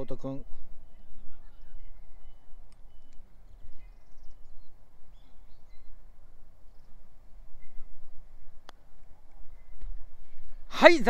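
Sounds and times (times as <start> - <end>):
faint bird chirps: 0.8 - 10.6.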